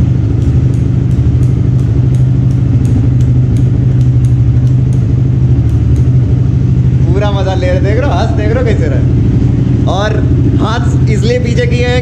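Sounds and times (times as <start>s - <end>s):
light regular ticking: 0.0s - 12.0s
motorcycle engine idling: 0.0s - 12.0s.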